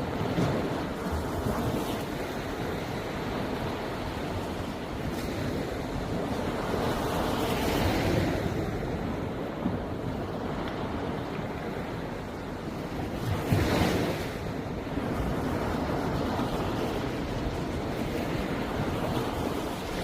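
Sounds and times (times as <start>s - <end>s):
sea waves washing ashore: 0.0s - 20.0s
wind buffeting microphone: 0.0s - 20.0s.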